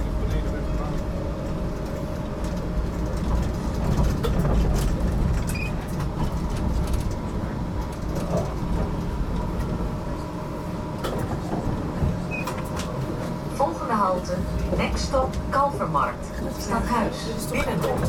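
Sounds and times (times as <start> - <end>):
tram rumbling: 0.0 - 18.0.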